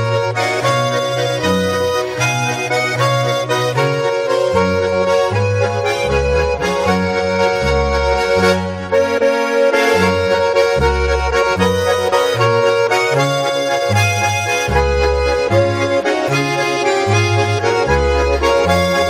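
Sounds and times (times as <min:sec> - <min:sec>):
accordion playing: 0:00.0 - 0:19.0.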